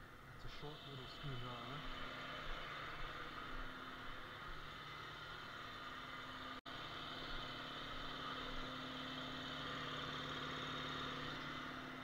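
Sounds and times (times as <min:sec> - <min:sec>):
air compressor motor running: 0:00.0 - 0:12.0.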